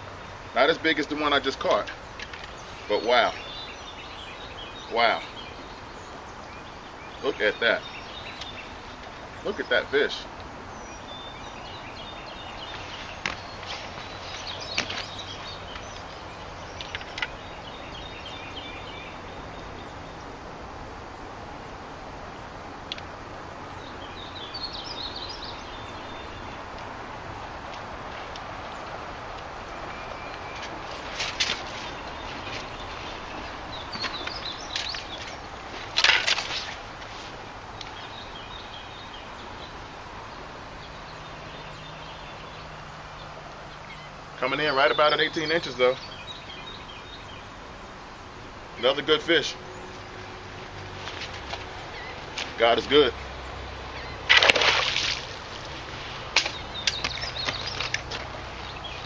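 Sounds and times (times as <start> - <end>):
outdoor background noise: 0.0 - 59.0
small birds chirping: 0.0 - 59.0.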